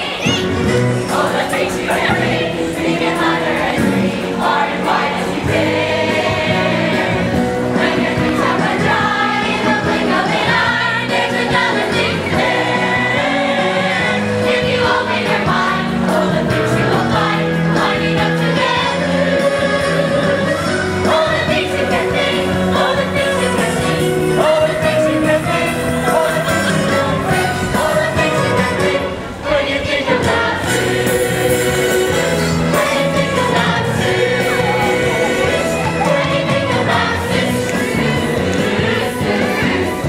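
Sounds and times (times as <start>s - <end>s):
instrumental accompaniment: 0.0s - 40.0s
young voices singing together: 0.0s - 40.0s.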